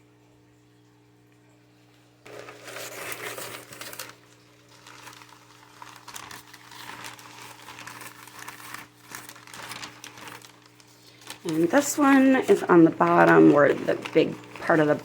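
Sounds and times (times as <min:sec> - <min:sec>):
packing material crinkling: 0:02.2 - 0:15.0.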